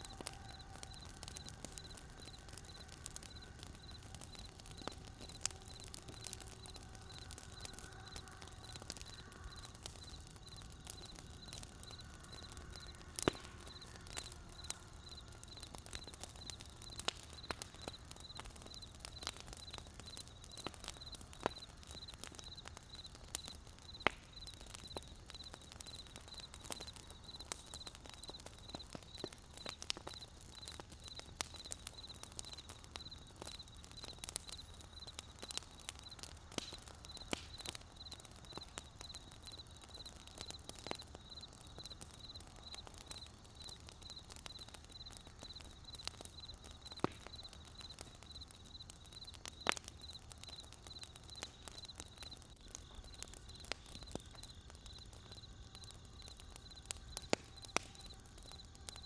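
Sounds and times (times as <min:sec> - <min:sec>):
campfire wood popping and snapping: 0:00.0 - 0:59.0
low rumble of fire: 0:00.0 - 0:59.0.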